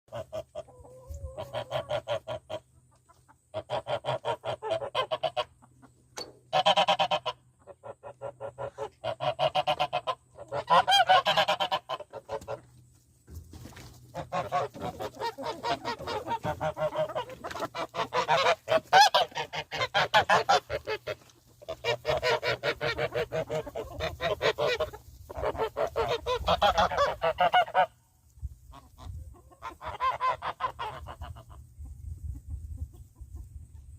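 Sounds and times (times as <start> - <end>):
geese honking: 0.1 - 12.8, 14.1 - 31.7.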